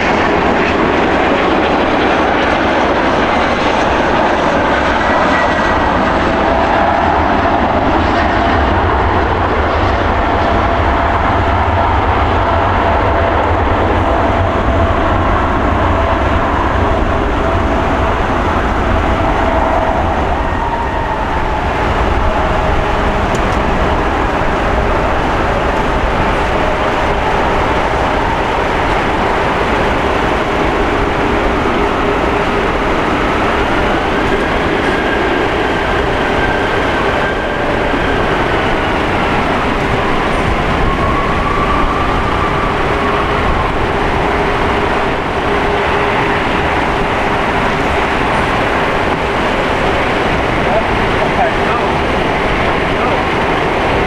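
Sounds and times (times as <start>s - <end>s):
jet engines at takeoff thrust: 0.0s - 54.0s.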